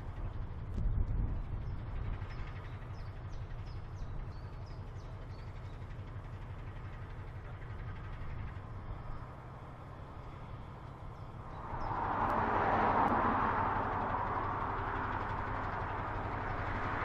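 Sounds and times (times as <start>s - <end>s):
diesel locomotive idling: 1.4s - 17.0s.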